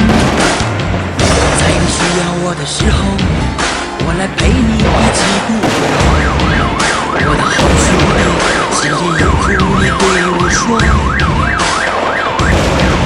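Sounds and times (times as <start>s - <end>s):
loud music with low notes: 0.0s - 13.0s
sharp cracks: 0.0s - 13.0s
warbling siren: 0.0s - 13.0s.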